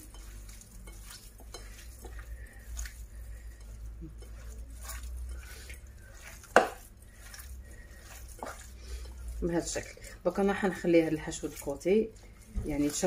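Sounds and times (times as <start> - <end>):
hands squelching wet meat stuffing: 0.0 - 13.0
low steady hum: 0.0 - 13.0.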